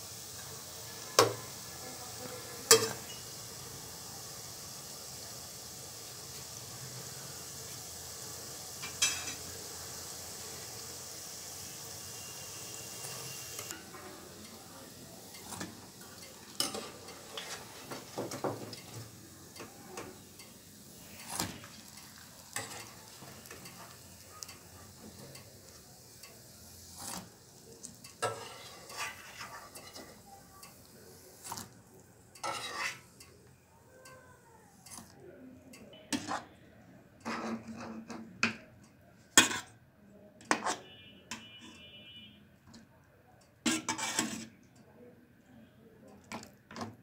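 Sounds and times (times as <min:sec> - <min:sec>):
dough deep-frying sizzle: 0:00.0 - 0:39.8, 0:40.5 - 0:42.3, 0:43.4 - 0:44.8.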